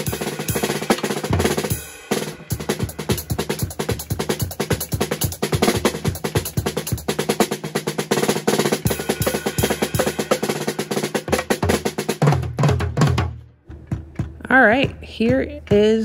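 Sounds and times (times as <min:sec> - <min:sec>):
drum kit played with sticks: 0:00.0 - 0:16.0.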